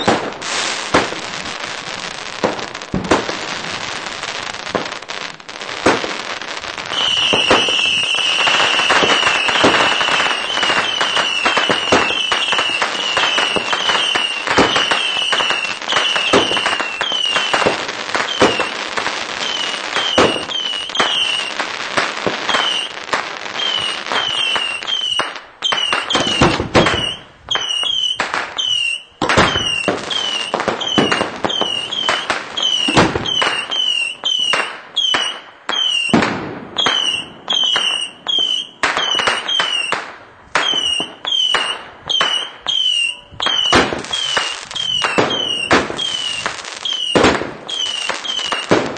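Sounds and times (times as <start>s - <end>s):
fireworks firing with whistles: 0.0s - 48.9s.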